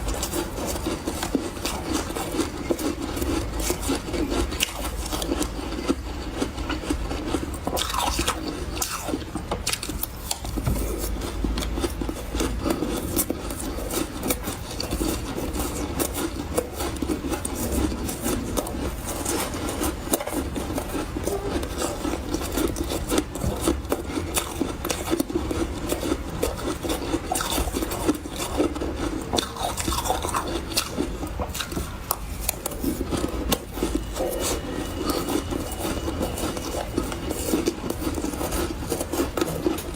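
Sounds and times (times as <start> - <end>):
ice being chewed crunching: 0.0 - 39.9.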